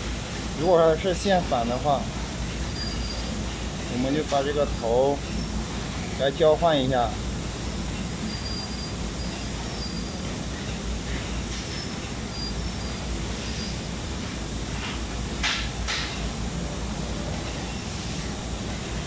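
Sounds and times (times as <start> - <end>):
background hiss and hum: 0.0 - 19.0.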